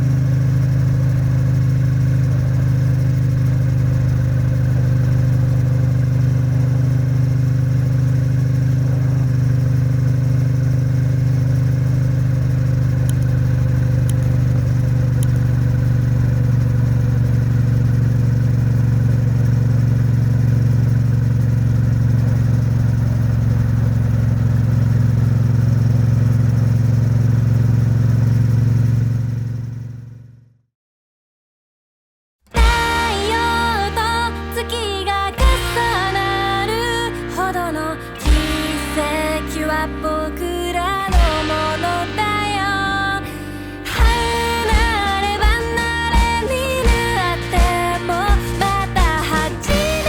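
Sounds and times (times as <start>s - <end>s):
motorcycle engine running: 0.0s - 30.5s, 32.5s - 50.0s.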